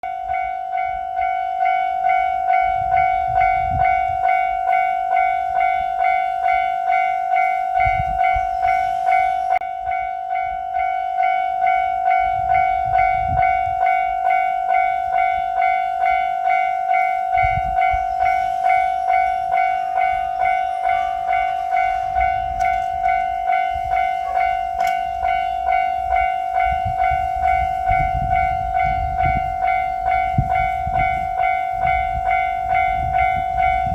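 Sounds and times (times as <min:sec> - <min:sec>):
level-crossing warning bell: 0:00.0 - 0:33.9.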